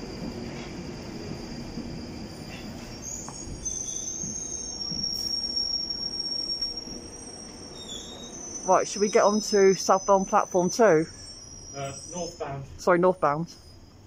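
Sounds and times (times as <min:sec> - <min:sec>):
high-pitched whine: 0:00.0 - 0:14.0
train low rumble: 0:00.0 - 0:14.0.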